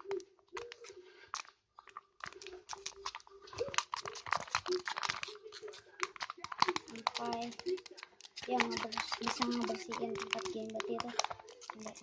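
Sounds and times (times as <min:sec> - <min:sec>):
slime being stirred: 0:00.0 - 0:12.0.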